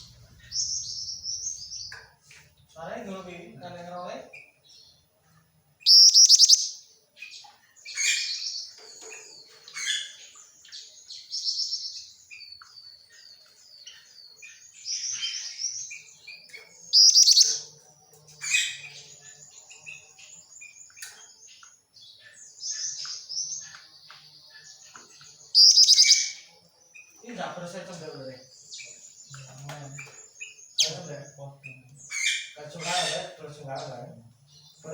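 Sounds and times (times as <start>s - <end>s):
bird chirping and trilling: 0.0s - 2.0s, 5.8s - 34.9s.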